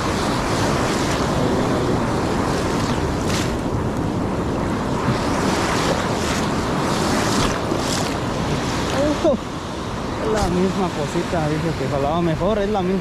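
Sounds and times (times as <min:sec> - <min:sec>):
foaming water swishes: 0:00.0 - 0:13.0
ocean surf breaking: 0:00.0 - 0:13.0
wind buffeting microphone: 0:00.0 - 0:13.0.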